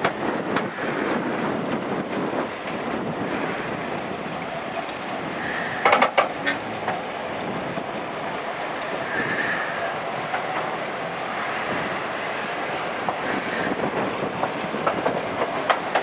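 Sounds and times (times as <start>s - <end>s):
steam locomotive wheels rumbling: 0.0s - 16.0s.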